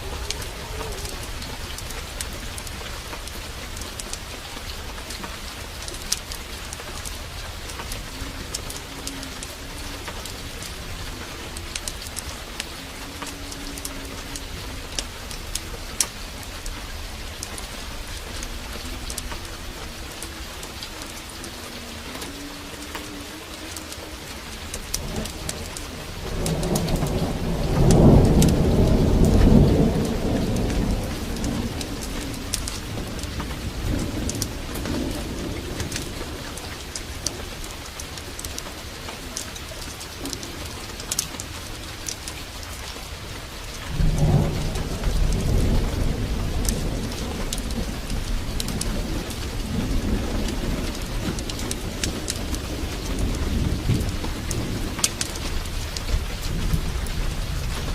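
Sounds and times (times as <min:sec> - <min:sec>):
heavy rain pouring: 0:00.0 - 0:57.9
rain drop ticks: 0:00.0 - 0:57.9
thunder rumbling: 0:00.0 - 0:57.9.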